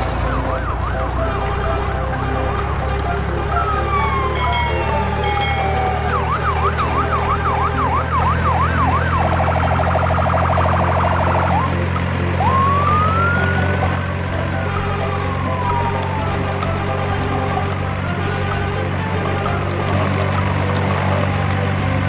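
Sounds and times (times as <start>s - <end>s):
electronic siren: 0.0s - 21.7s.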